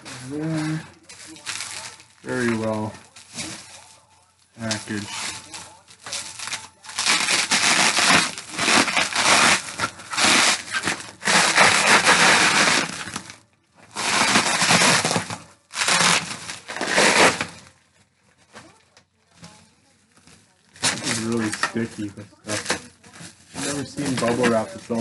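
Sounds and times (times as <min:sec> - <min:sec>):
bubble wrap peeling crackle: 0:00.0 - 0:25.0.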